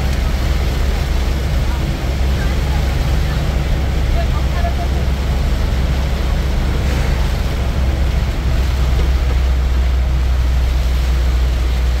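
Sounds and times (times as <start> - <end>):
vehicle road and engine rumble: 0.0 - 12.0.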